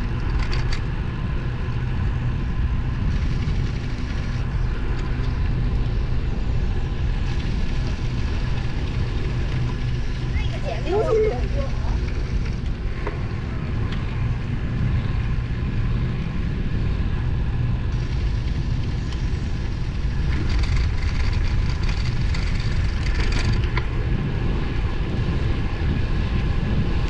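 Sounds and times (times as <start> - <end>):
bicycle tyres rolling on road: 0.0 - 27.0
wind rumbling over microphone: 0.0 - 27.0.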